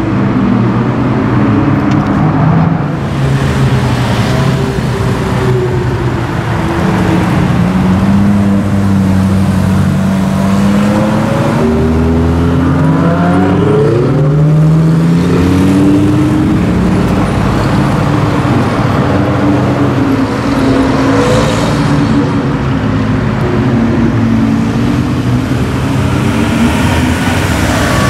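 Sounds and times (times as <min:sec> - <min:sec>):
car engines accelerating: 0:00.0 - 0:28.0
steady engine drone: 0:00.0 - 0:28.0.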